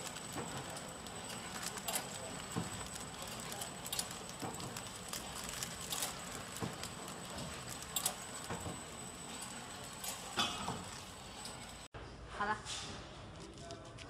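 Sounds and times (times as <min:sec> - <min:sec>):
high constant whine: 0:00.0 - 0:11.9
mechanical clicks and clacks: 0:00.0 - 0:11.9
packaging machine humming: 0:00.0 - 0:11.9.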